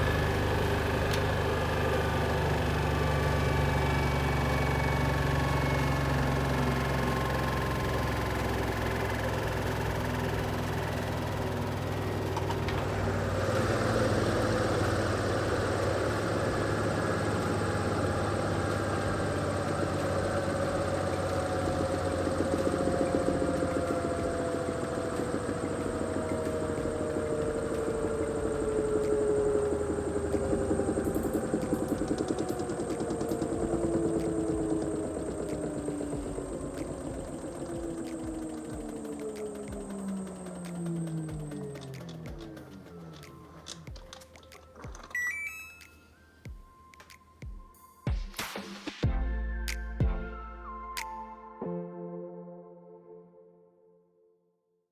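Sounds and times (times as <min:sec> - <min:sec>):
low hum: 0:00.0 - 0:46.0
washing machine winding down: 0:00.0 - 0:46.0.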